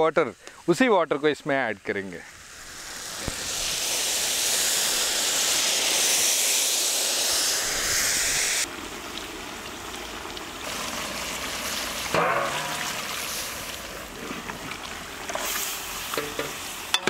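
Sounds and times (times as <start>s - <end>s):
broth pouring into a pot: 2.3s - 16.9s.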